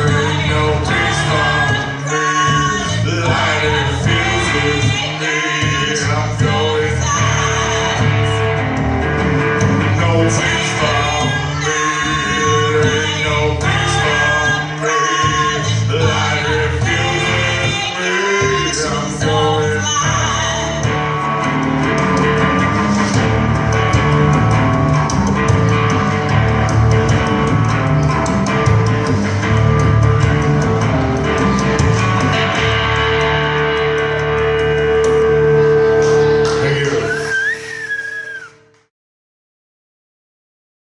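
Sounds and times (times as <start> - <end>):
blues-rock band playing: 0.0 - 38.5.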